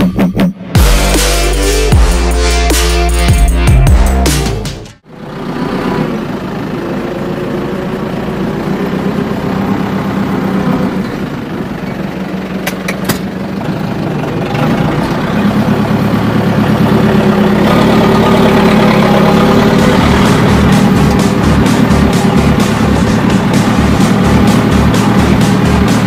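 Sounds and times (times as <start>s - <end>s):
tractor diesel engine running: 0.7s - 26.0s.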